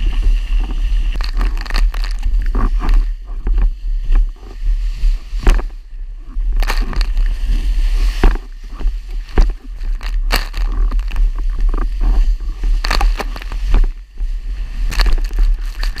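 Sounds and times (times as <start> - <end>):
board slapping water: 0.0 - 16.0
wind buffeting microphone: 0.0 - 16.0.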